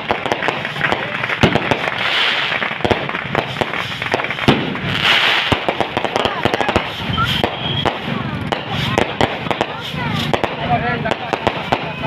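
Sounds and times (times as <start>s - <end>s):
fireworks bangs and crackles: 0.0s - 12.0s
fireworks hissing: 0.0s - 12.0s.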